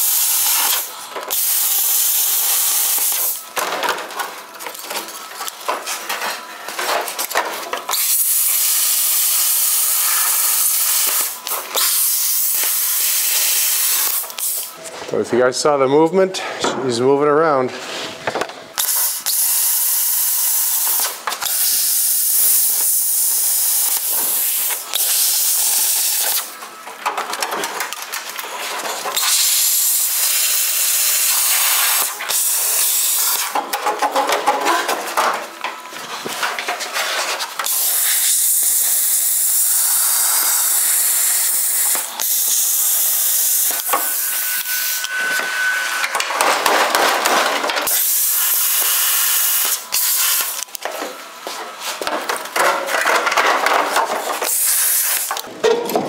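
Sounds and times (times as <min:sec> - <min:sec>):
power tool cutting sheet metal: 0:00.0 - 0:07.3, 0:07.9 - 0:14.8, 0:18.8 - 0:26.6, 0:27.8 - 0:35.3, 0:37.0 - 0:50.7, 0:52.3 - 0:55.5.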